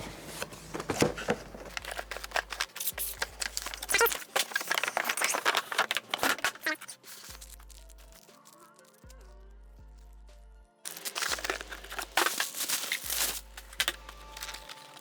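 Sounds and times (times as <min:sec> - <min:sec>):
plastic packaging crackling: 0:00.0 - 0:09.1, 0:10.9 - 0:15.0.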